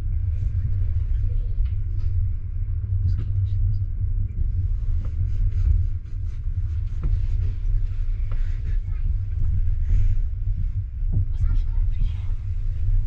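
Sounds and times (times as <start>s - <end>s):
train rumbling: 0.0s - 13.0s
wind on microphone: 0.0s - 13.0s.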